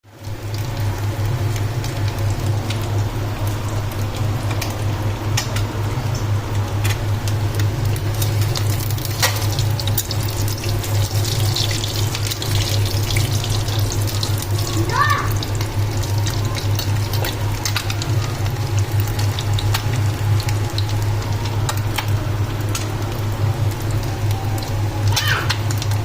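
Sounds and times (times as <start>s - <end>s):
egg sizzling in oil: 0.1s - 26.0s
low steady hum: 0.1s - 26.0s
oil popping and crackling: 0.1s - 26.0s.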